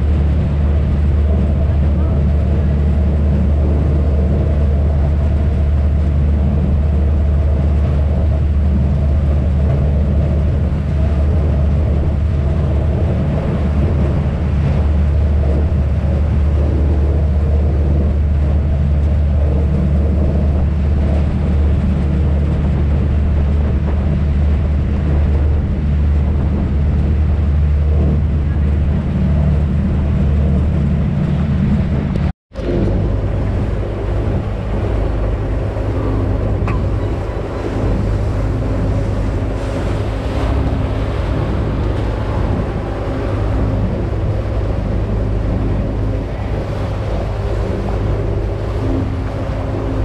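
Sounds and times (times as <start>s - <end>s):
boat engine low drone: 0.0s - 50.0s.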